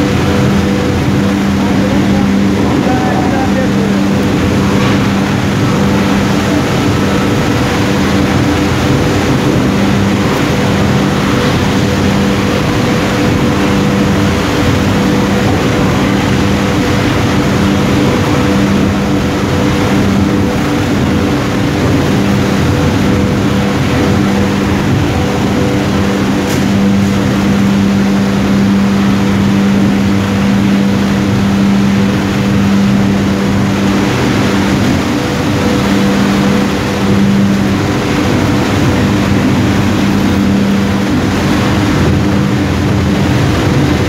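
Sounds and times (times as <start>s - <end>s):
machinery drone with low hum: 0.0s - 44.0s.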